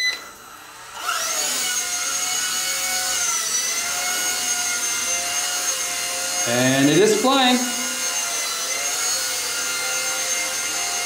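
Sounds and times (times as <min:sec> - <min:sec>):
toy helicopter motor whine: 0:00.0 - 0:11.0.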